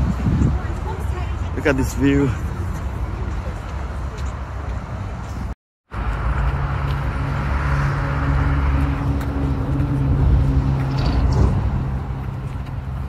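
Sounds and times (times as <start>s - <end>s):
road traffic noise: 0.0s - 13.0s
vehicle engine humming: 0.0s - 13.0s.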